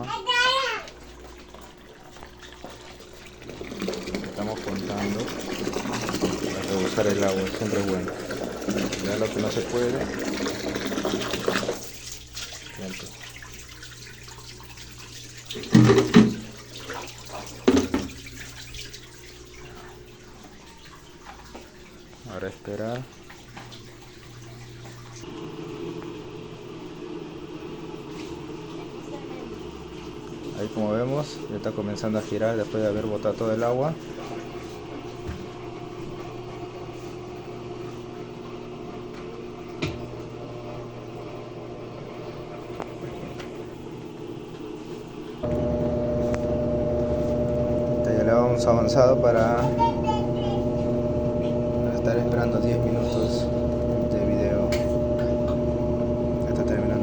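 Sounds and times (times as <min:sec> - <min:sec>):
washing machine low hum: 0:00.0 - 0:57.0
water draining from washing machine: 0:00.0 - 0:57.0.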